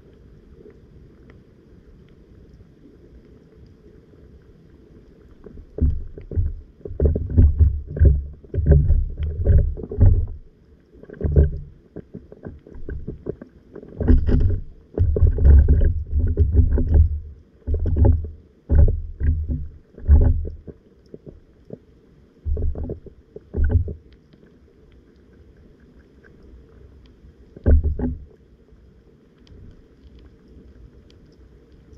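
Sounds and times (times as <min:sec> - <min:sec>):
muffled underwater water rumbling: 0:00.0 - 0:31.9.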